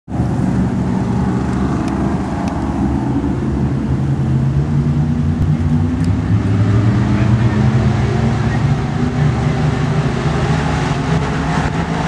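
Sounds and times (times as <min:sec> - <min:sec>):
race car engines droning: 0:00.1 - 0:12.0.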